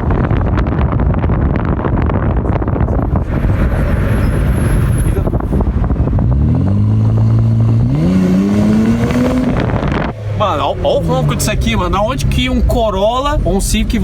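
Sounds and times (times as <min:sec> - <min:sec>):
car engine accelerating: 0:00.0 - 0:14.0
car exhaust rumble: 0:00.0 - 0:14.0.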